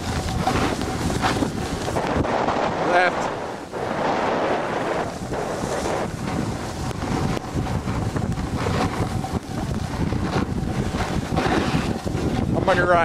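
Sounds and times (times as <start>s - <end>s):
snowboard scraping over snow: 0.0s - 13.0s
wind rushing over microphone: 0.0s - 13.0s.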